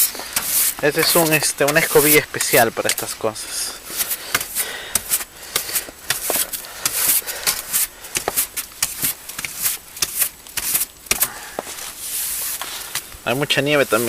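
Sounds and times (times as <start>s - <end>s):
snow brush sweeping snow: 0.0s - 14.0s.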